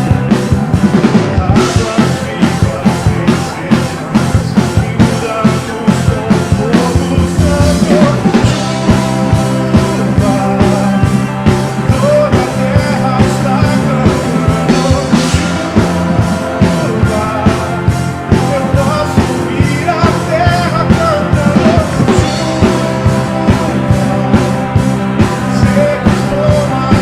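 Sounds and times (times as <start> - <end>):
band playing rock music: 0.0 - 27.0
steady drum beat: 0.0 - 27.0.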